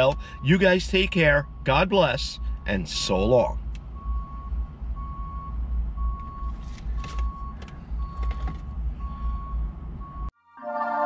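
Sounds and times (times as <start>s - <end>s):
car warning chime beeping: 0.0s - 10.3s
low car rumble: 0.0s - 10.3s.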